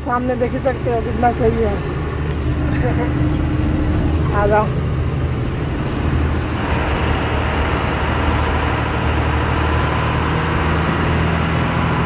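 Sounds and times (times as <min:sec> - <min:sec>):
broad noise: 0:00.0 - 0:11.1
diesel truck engine humming: 0:00.0 - 0:12.0.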